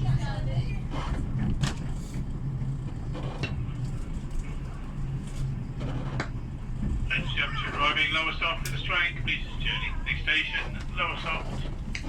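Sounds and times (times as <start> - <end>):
train running drone: 0.0 - 12.0.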